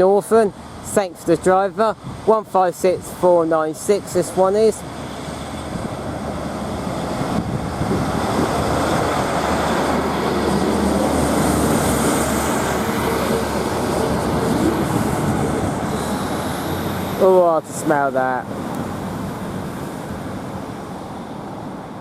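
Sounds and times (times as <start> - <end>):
diesel train engines pulling away: 0.0 - 22.0.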